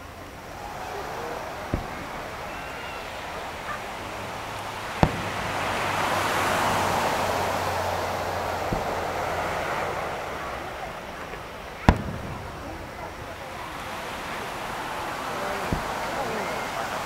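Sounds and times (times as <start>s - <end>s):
background noise rush: 0.0s - 17.0s
fireworks booming: 0.0s - 17.0s.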